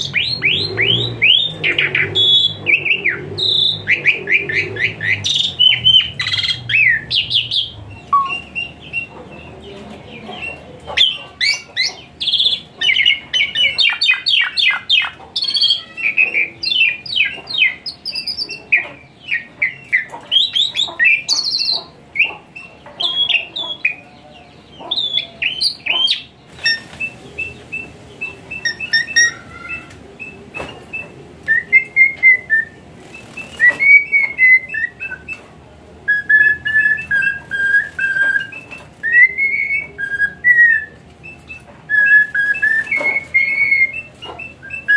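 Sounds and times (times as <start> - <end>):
starling singing: 0.0 - 44.9.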